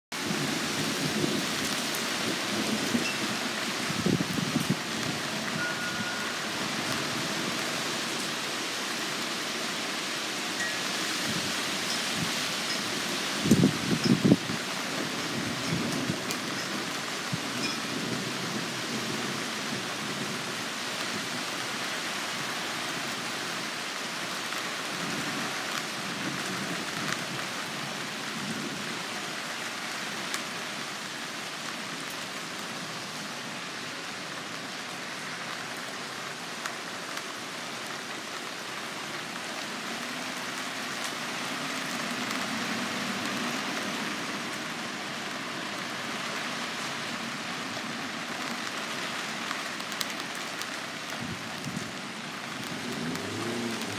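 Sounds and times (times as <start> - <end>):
steady rain hiss: 0.1 - 53.9.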